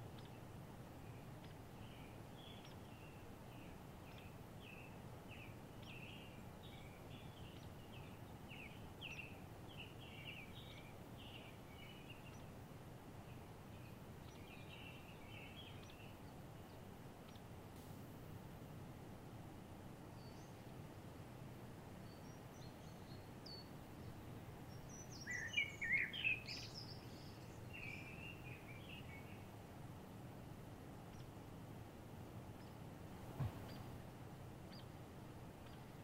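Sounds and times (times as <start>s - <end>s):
soft low background noise: 0.0s - 36.0s
songbirds chirping: 0.0s - 36.0s.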